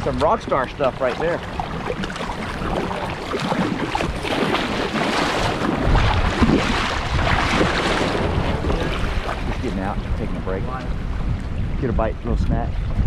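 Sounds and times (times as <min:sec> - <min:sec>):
kayak paddle splashing in water: 0:00.0 - 0:11.6
wind buffeting microphone: 0:00.0 - 0:13.0.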